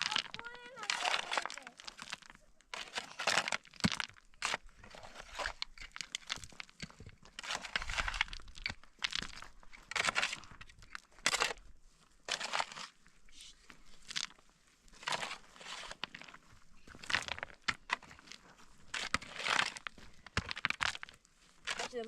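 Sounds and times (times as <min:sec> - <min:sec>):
crunching and rustling: 0:00.0 - 0:22.0.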